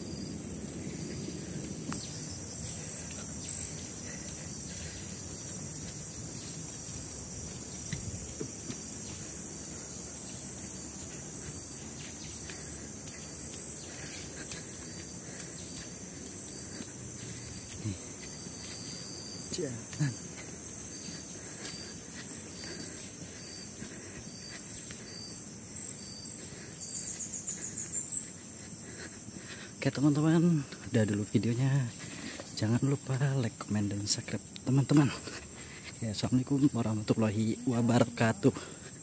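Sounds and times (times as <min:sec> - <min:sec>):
insects chirping: 0:00.0 - 0:39.0.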